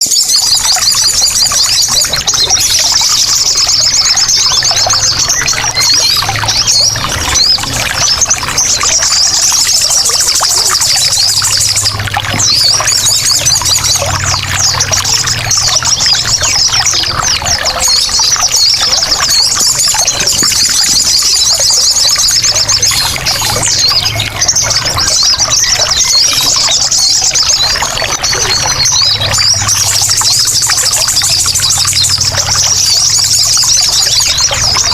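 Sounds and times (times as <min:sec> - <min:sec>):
birds chattering in trills: 0:00.0 - 0:34.9
trickling water: 0:00.0 - 0:34.9.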